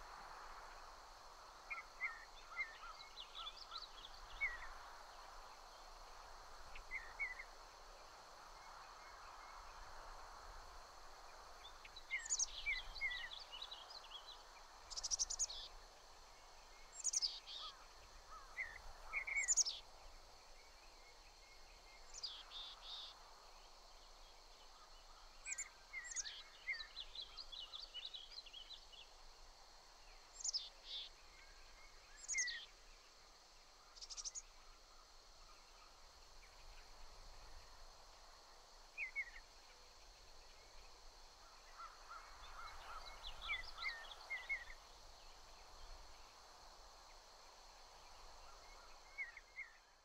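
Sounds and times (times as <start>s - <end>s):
steady outdoor hiss: 0.0s - 50.0s.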